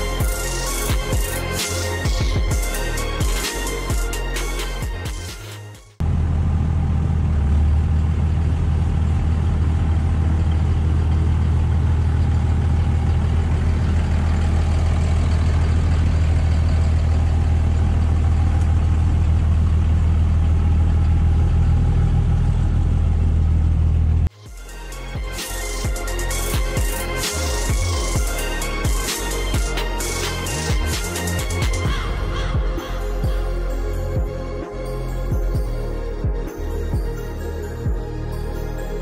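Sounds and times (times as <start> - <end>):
engine idling with deep drone: 0.0 - 39.0.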